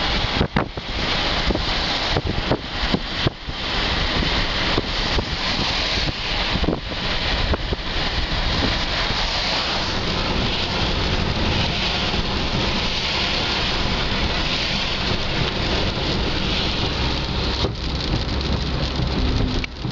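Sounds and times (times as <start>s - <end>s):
rain hitting car roof: 0.0s - 19.9s
tyres on wet road: 0.0s - 19.9s.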